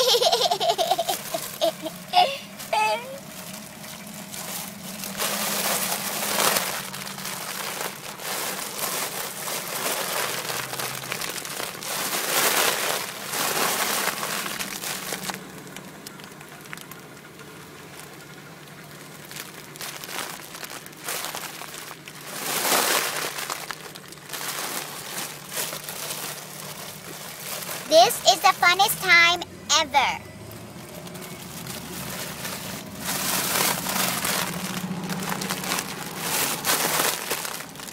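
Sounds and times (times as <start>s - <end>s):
balloon crinkling and rustling: 0.0s - 37.9s.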